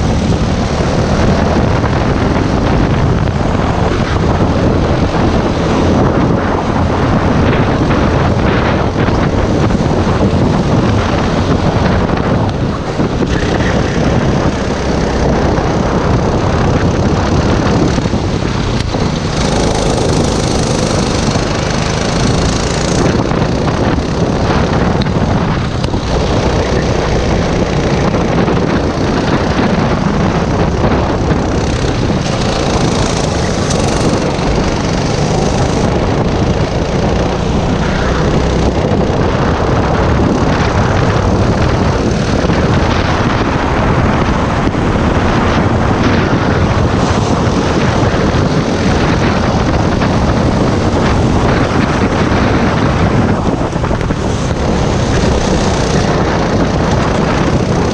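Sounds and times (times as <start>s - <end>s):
kart engine running hard: 0.0s - 57.9s
other karts nearby: 0.0s - 57.9s.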